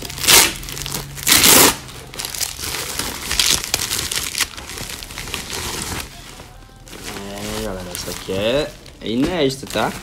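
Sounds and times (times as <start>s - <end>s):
plastic bag crinkling and rustling: 0.0s - 10.0s.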